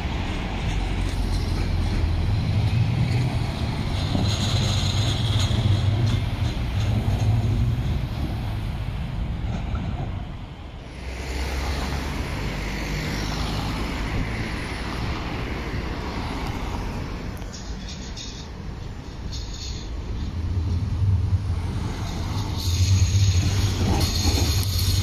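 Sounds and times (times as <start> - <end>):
trams and cars passing: 0.0 - 25.0.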